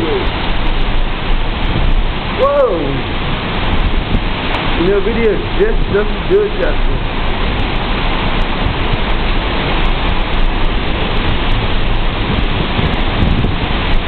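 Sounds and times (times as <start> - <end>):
wind buffeting microphone: 0.0 - 14.0
wind-driven rain: 0.0 - 14.0.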